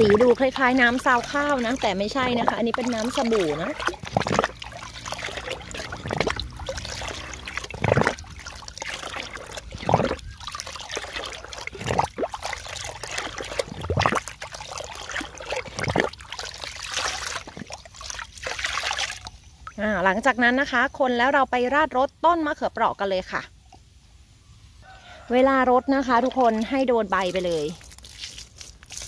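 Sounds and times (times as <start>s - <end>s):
water sloshing in container: 0.0s - 20.4s, 25.7s - 29.0s.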